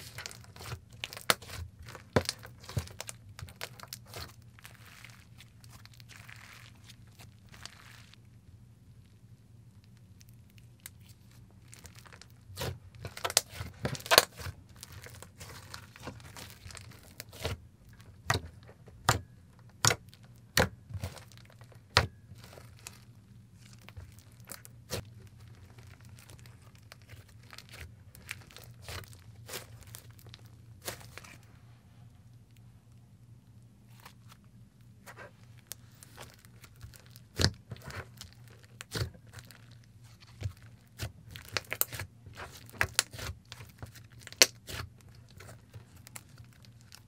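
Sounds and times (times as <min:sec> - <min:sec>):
slime popping and crackling: 0:00.0 - 0:08.3, 0:10.2 - 0:31.4, 0:35.1 - 0:47.0.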